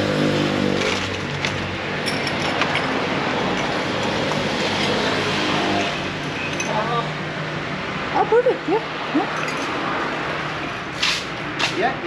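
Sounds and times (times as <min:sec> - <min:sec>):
vehicle engine hum: 0:00.0 - 0:11.7
road noise: 0:00.0 - 0:12.0.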